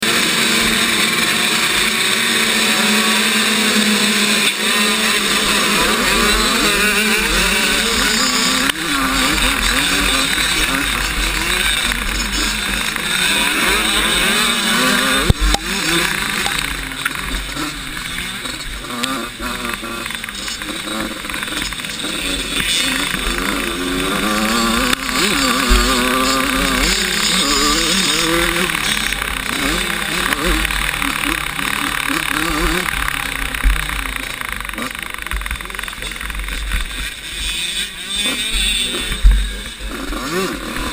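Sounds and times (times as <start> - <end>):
two-stroke motocross bike engine revving: 0.0 - 40.9.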